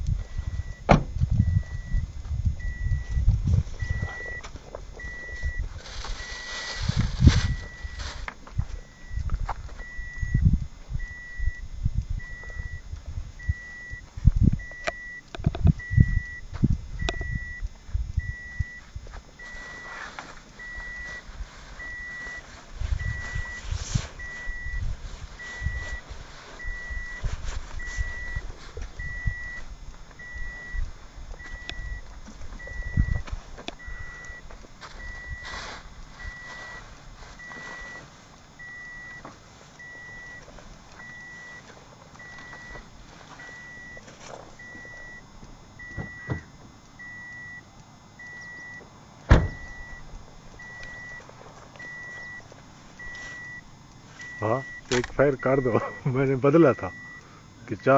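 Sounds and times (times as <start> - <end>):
car warning beep: 0.2 - 57.9.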